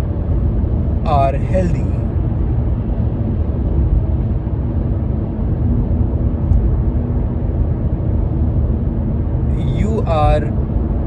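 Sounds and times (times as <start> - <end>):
loud low rumble: 0.0 - 11.0.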